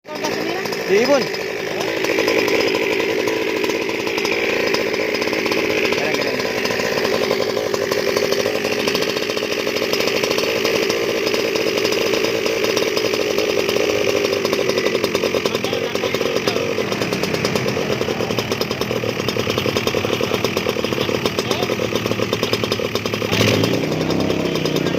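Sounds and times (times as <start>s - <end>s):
small engine buzzing: 0.0s - 24.9s.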